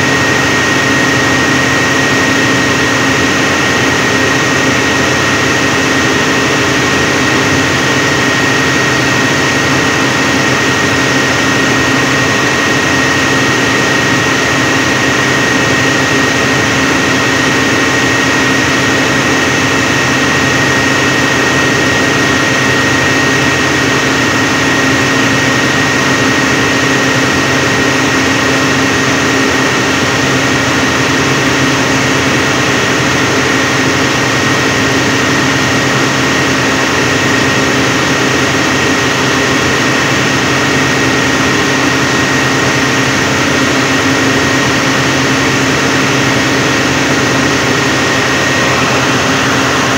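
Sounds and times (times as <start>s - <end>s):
generator engine hum: 0.0s - 49.9s
high whine: 0.0s - 49.9s.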